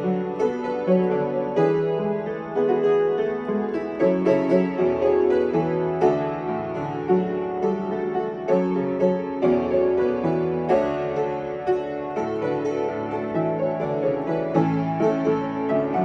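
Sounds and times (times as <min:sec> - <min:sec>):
solo piano playing pop song: 0:00.0 - 0:16.0.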